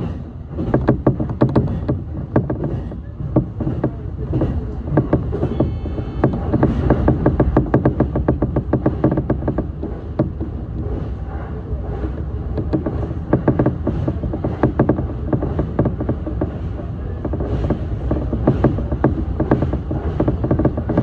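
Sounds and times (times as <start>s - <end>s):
wheels clicking over track: 0.0s - 11.1s, 11.8s - 21.0s
train rumble: 0.0s - 21.0s.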